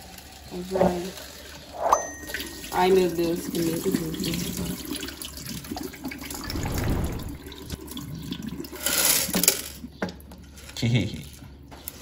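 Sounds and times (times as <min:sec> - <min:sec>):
water pouring into a sink: 0:00.0 - 0:10.0.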